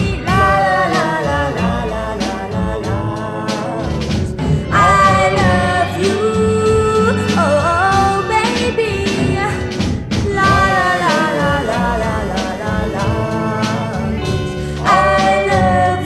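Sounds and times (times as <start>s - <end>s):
soul ballad from vinyl record: 0.0s - 16.0s.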